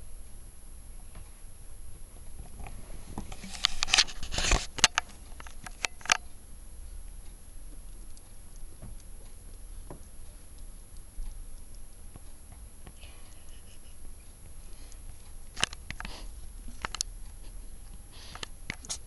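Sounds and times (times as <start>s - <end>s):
small clicks and scratches: 2.2s - 6.4s, 7.0s - 19.0s.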